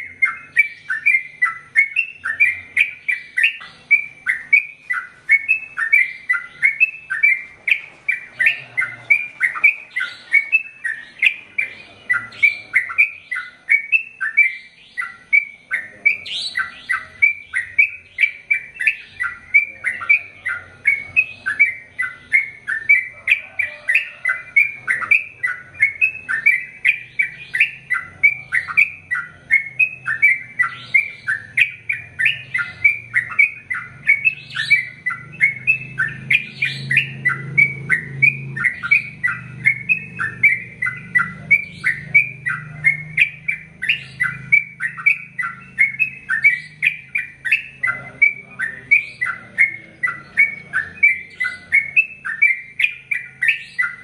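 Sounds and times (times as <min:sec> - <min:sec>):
bulbul rapid chirping song: 0:00.0 - 0:54.0.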